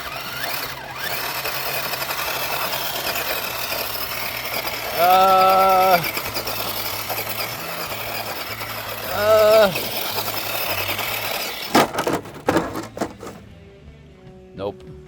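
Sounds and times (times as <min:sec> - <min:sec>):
electric motor whining: 0:00.0 - 0:13.4.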